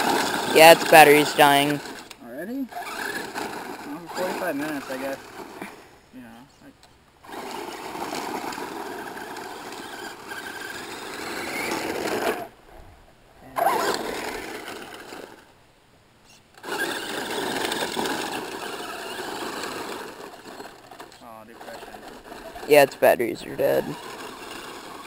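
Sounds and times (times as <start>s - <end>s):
rc truck motor whirring: 0.0s - 5.7s, 7.2s - 12.6s, 13.6s - 15.5s, 16.5s - 25.0s.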